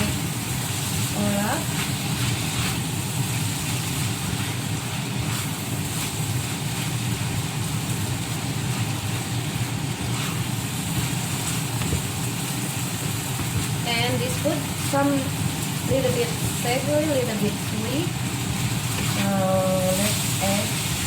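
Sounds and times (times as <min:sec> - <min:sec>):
food cooking in a pan: 0:00.0 - 0:21.0.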